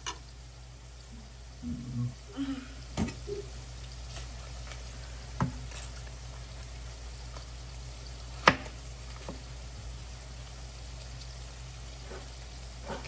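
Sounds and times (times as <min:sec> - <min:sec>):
low hiss and hum: 0:00.0 - 0:13.0.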